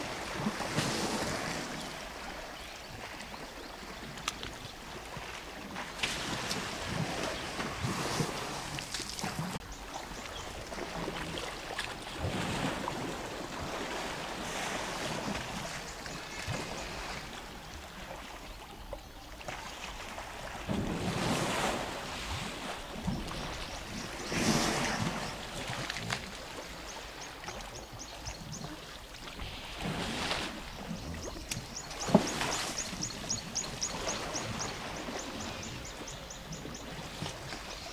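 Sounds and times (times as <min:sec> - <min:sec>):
elephants splashing in water: 0:00.0 - 0:18.4, 0:19.4 - 0:28.0, 0:28.6 - 0:37.9.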